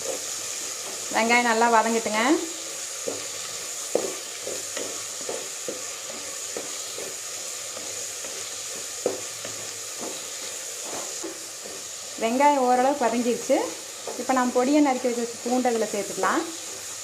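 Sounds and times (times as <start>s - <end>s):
shallots sizzling in oil: 0.0s - 17.0s.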